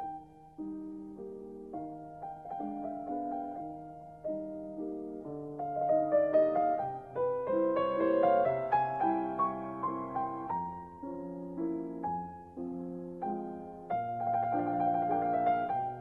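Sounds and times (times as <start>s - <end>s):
slow solo piano piece: 0.0s - 16.0s.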